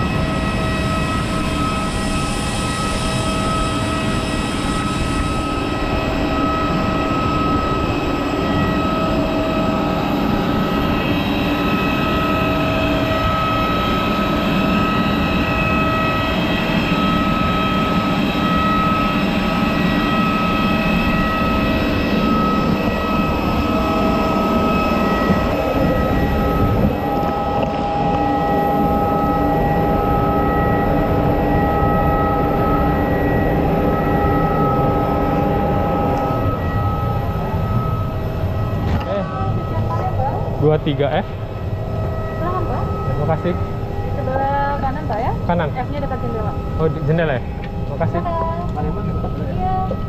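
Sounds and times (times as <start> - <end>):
jet turbines whining and roaring: 0.0 - 50.0.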